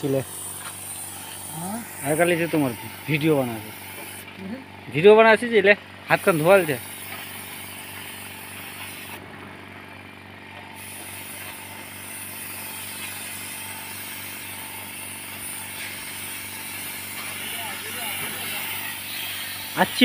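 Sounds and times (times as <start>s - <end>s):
paint spray gun hissing: 0.0s - 4.4s, 6.1s - 9.3s, 10.8s - 20.0s
air compressor humming: 0.0s - 20.0s.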